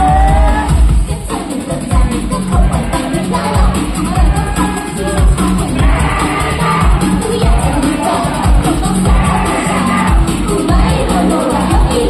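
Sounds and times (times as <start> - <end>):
upbeat pop song over loudspeakers: 0.0 - 12.0.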